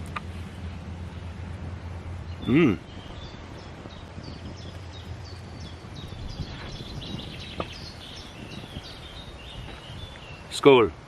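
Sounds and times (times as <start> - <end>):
outdoor background noise: 0.0 - 11.0
small birds chirping: 0.0 - 11.0.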